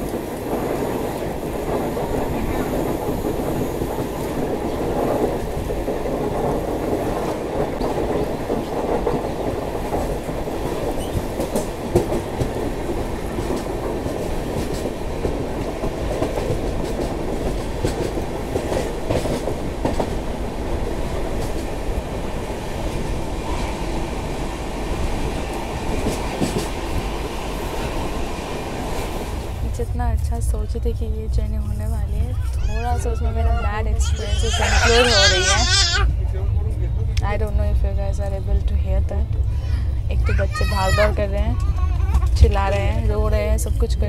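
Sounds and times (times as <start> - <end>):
train rumble inside coach: 0.0 - 44.0.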